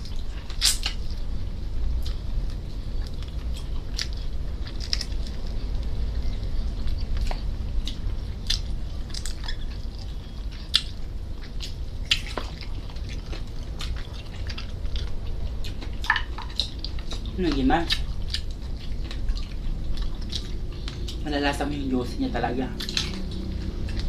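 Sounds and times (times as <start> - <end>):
people chewing and lip-smacking: 0.0 - 1.3, 1.9 - 24.0
steady low hum: 0.0 - 24.0.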